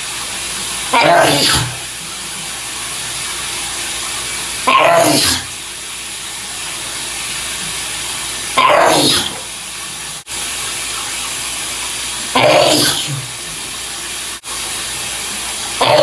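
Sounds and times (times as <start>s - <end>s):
shower running hiss: 0.0s - 16.0s.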